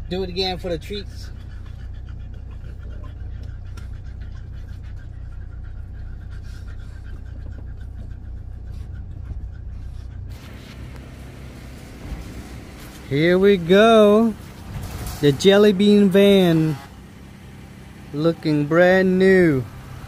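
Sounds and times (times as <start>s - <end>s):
dogs panting: 0.0s - 20.0s
vehicle engine hum: 0.0s - 20.0s.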